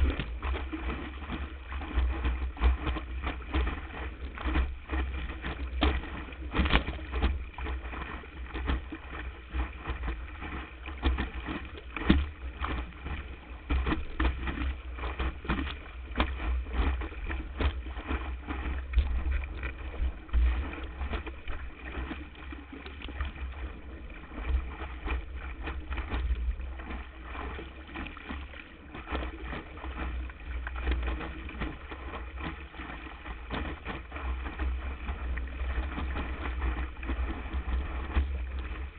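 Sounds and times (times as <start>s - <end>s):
low rumble of buffeting: 0.0s - 38.9s
rush of water and spray: 0.0s - 38.9s
water slapping against camera: 0.0s - 38.9s.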